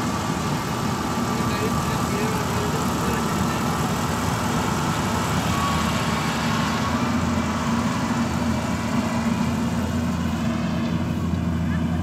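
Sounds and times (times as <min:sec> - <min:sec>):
combine harvester engine humming: 0:00.0 - 0:12.0.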